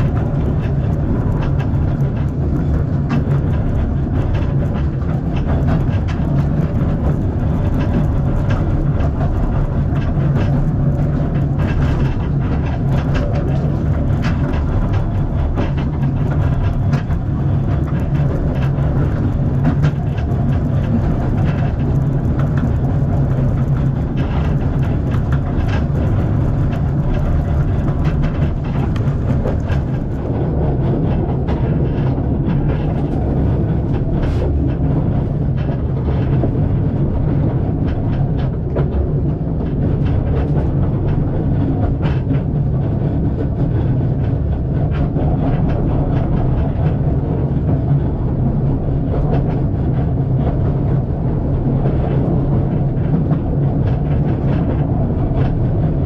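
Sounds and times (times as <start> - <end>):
clicks and rattles: 0.0 - 56.0
train wheels rumbling: 0.0 - 56.0.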